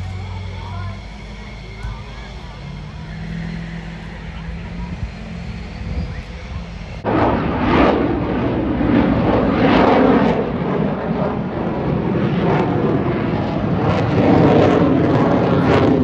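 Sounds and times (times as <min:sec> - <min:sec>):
fighter jet flying overhead: 0:00.0 - 0:16.0.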